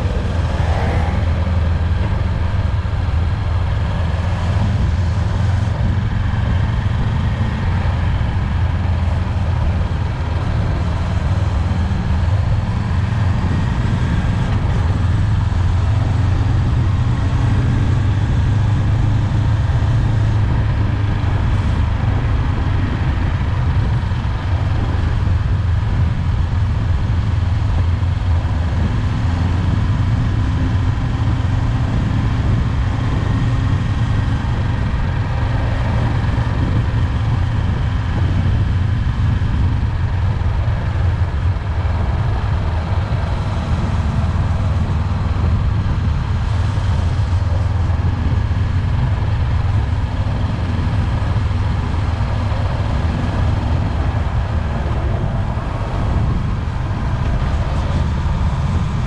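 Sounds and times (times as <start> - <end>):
motorcycle engine running: 0.0 - 59.0
road noise: 0.0 - 59.0
wind noise: 0.0 - 59.0.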